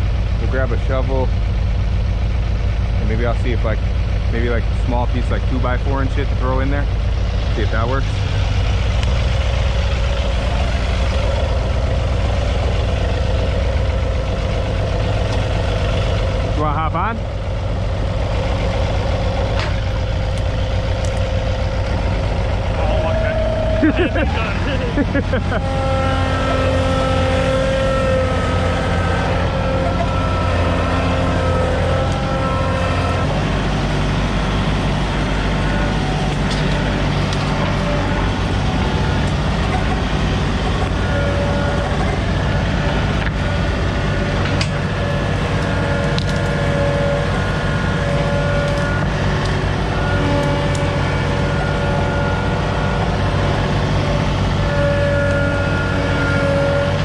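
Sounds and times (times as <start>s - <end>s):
steady whine: 0.0s - 57.0s
tractor engine running: 0.0s - 57.0s.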